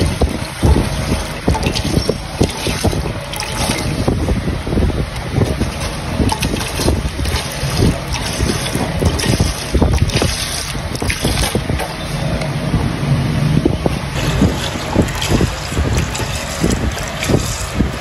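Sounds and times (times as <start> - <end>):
milk pouring into steel pot: 0.0 - 4.0, 5.2 - 12.2, 14.2 - 18.0
wind rumble on microphone: 0.0 - 18.0.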